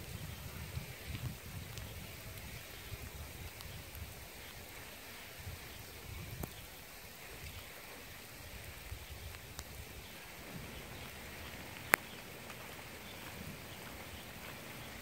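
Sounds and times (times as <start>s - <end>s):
faint ticks: 0.0s - 15.0s
light rain hissing: 0.0s - 15.0s.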